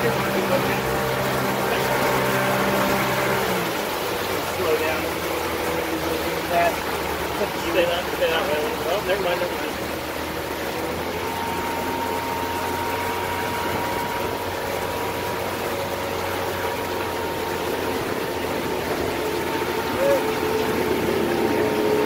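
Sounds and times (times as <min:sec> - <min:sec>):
outboard motor running: 0:00.0 - 0:22.0
water rushing: 0:00.0 - 0:22.0
wind: 0:00.0 - 0:22.0.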